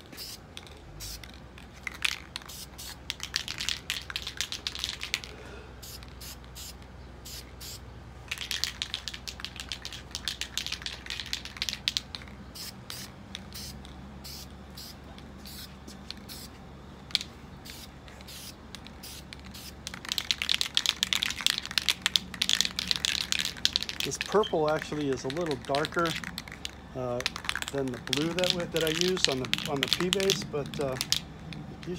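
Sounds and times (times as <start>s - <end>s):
spray paint can hissing: 0.0s - 31.9s.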